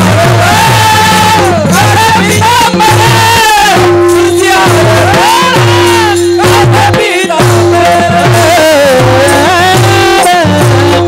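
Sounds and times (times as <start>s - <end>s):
hand drum beat: 0.0s - 11.0s
men singing in unison: 0.0s - 11.0s.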